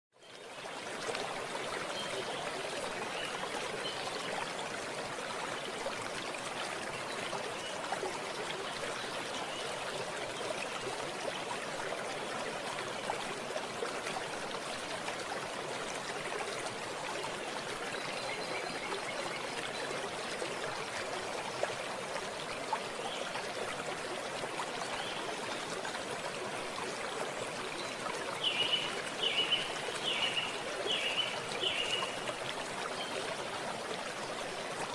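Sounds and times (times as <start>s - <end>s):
stream water trickling: 0.2s - 34.9s.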